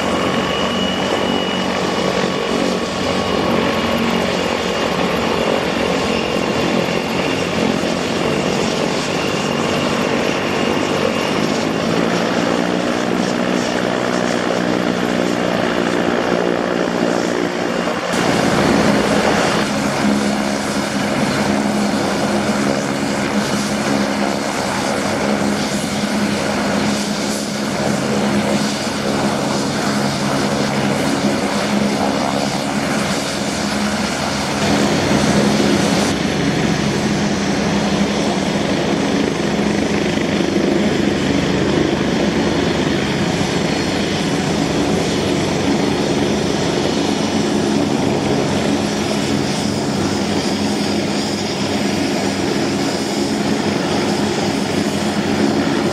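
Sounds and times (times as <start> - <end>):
helicopter turbines and rotor: 0.0 - 55.9.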